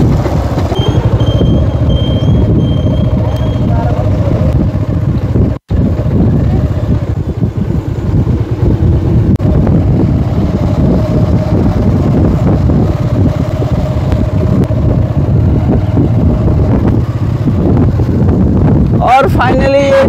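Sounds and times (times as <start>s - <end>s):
motorcycle engine rumbling: 0.0s - 20.0s
wind buffeting microphone: 0.0s - 20.0s.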